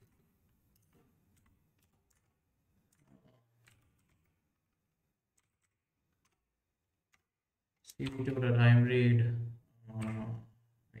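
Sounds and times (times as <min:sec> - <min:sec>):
faint keyboard typing: 0:00.0 - 0:11.0.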